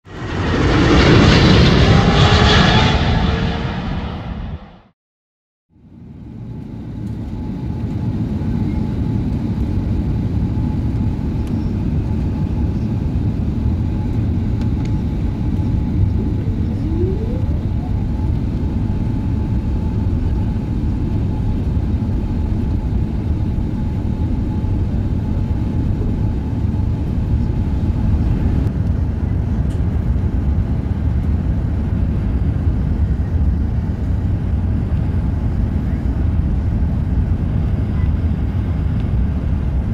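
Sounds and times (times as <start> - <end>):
airplane cabin engine rumble: 0.1 - 5.0, 5.8 - 39.9.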